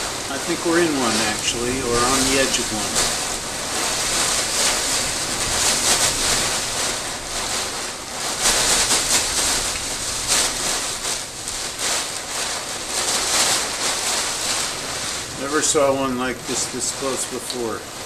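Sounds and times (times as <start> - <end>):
gusting wind: 0.0 - 18.0
torrential rain: 0.0 - 18.0.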